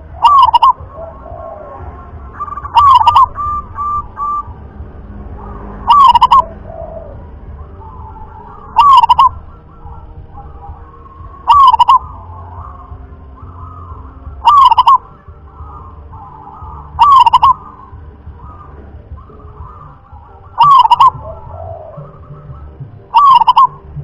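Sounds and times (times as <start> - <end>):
faint bird calls: 0.0 - 4.6, 5.3 - 24.0
dove cooing song: 0.0 - 24.0.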